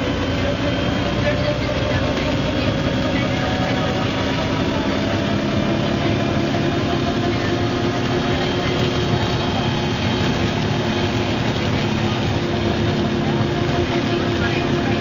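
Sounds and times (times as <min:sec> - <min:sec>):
diesel bus engine running: 0:00.0 - 0:15.0.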